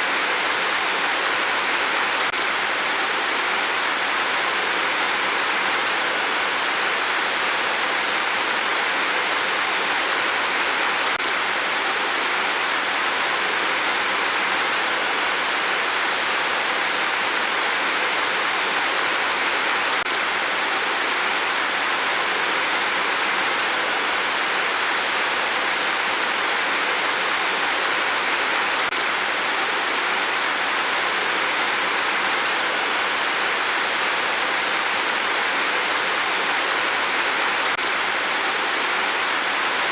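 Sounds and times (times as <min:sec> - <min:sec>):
rain with wind: 0:00.0 - 0:39.9.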